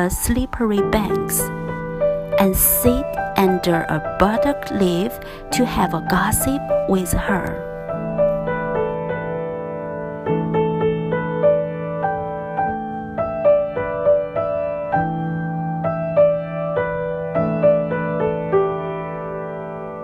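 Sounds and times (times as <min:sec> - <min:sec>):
solo piano music: 0:00.0 - 0:20.0.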